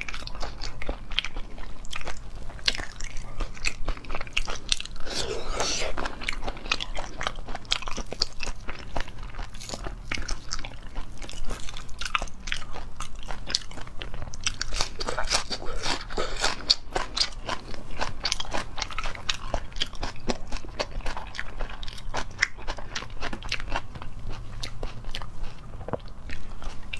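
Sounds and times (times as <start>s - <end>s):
person crunching and chewing food: 0.0s - 26.9s.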